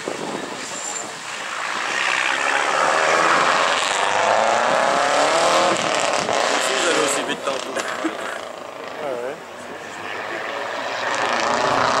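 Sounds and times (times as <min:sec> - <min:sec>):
rally car engine passing: 0:01.0 - 0:12.0.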